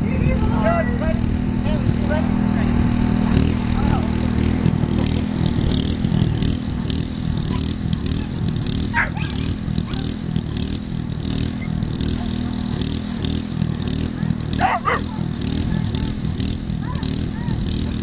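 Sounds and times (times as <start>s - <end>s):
small engine droning: 0.0s - 18.0s.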